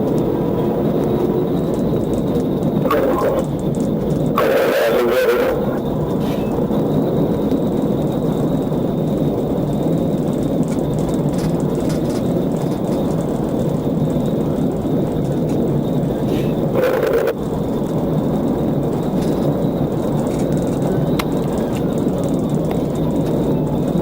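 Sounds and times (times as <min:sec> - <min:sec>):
car road noise and engine rumble: 0:00.0 - 0:24.0.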